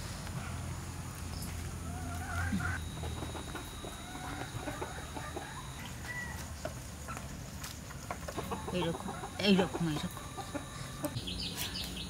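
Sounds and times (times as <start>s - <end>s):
chickens clucking: 1.8s - 11.9s.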